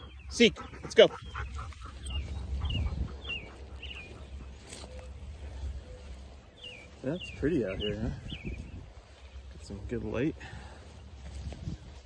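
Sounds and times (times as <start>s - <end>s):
songbird chirping: 0.0s - 12.0s
wind rumbling on microphone: 1.2s - 12.0s.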